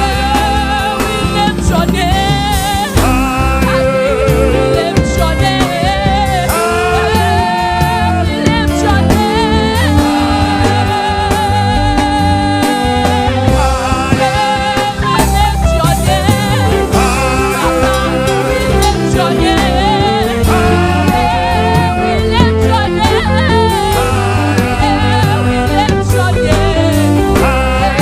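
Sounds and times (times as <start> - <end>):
live band playing: 0.0 - 28.0
choir singing: 2.8 - 28.0.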